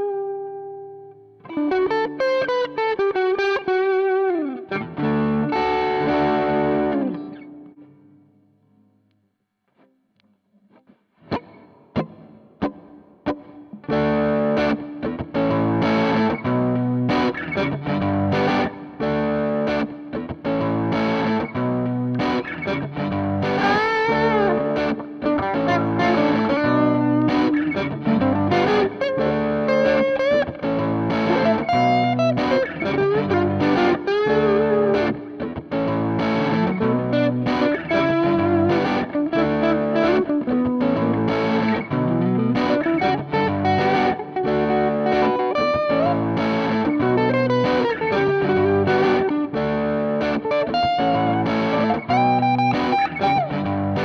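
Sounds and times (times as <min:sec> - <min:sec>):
strummed electric guitar chords: 0:00.0 - 0:08.4, 0:10.8 - 0:54.0
electric guitar lead with bends: 0:00.0 - 0:08.5, 0:10.6 - 0:54.0.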